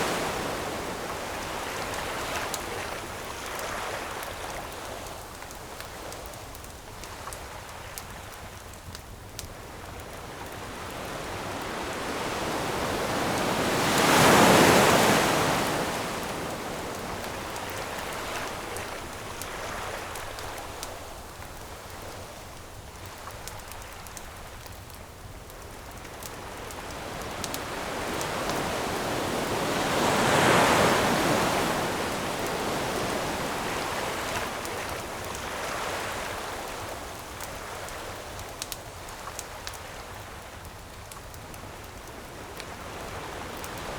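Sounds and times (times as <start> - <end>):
ocean waves breaking on shore: 0.0 - 6.1, 9.6 - 24.5, 26.0 - 40.6, 41.5 - 43.9
campfire crackling: 0.0 - 43.9.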